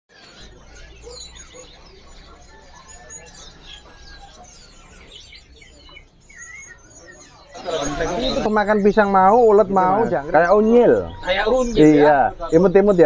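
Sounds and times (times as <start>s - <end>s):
songbirds chirping and whistling: 0.1s - 13.0s.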